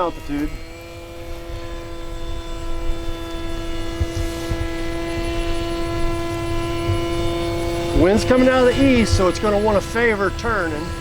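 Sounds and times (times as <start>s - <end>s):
electric motor whine: 0.0s - 11.0s
wind on microphone: 0.0s - 11.0s.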